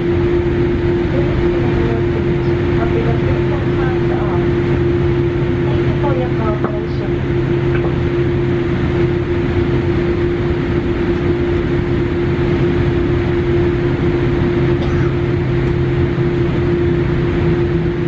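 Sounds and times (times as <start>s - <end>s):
constant humming tone: 0.0s - 18.0s
jet engines idling rumble: 0.0s - 18.0s.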